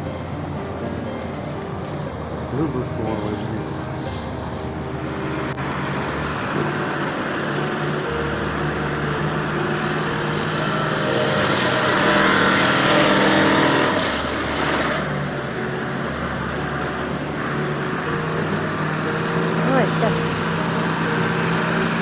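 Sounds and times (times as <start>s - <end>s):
road noise: 0.0s - 22.0s
car engine while driving: 4.0s - 22.0s.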